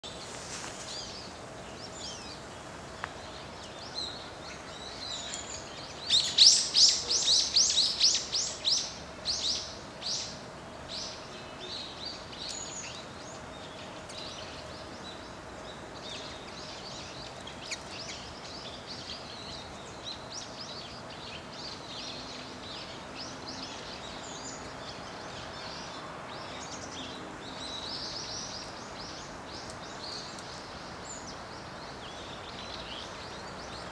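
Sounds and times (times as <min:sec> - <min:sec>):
background hiss: 0:00.0 - 0:33.9
birds chirping and calling: 0:00.0 - 0:33.9.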